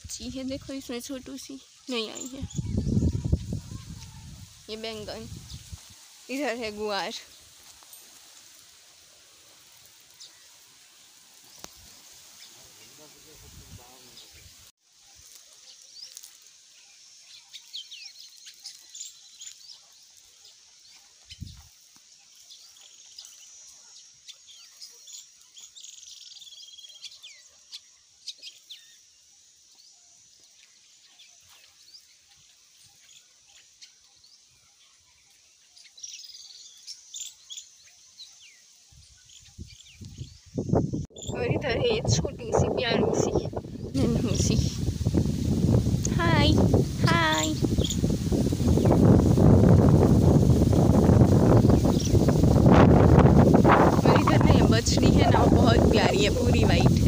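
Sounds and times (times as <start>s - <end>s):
birds chirping and calling: 0.0s - 8.2s, 9.3s - 14.6s, 15.2s - 29.0s, 29.7s - 57.0s
faint high-pitched hiss: 0.0s - 41.0s, 42.7s - 57.0s.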